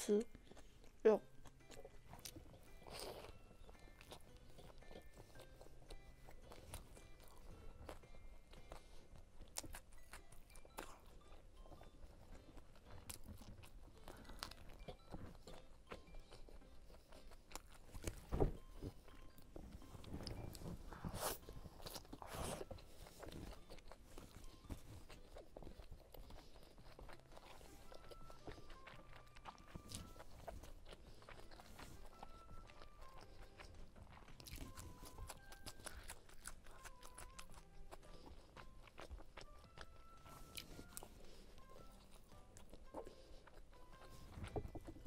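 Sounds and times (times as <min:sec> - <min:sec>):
chewing and crunching food: 0:00.0 - 0:45.0.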